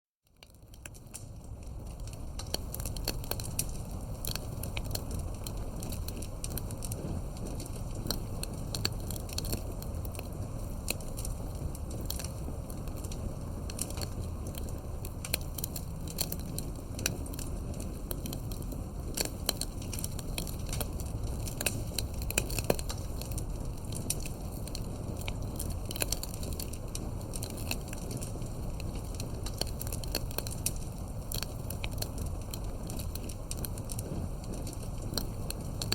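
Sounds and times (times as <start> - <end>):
low rumble of burning fire: 0.2 - 35.9
campfire crackling and popping: 0.3 - 35.9.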